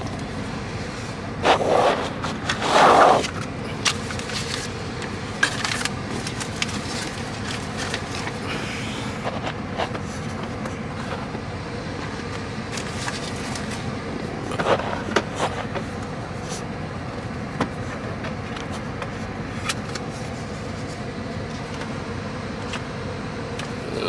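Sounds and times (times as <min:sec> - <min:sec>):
steady rumble: 0:00.0 - 0:24.0.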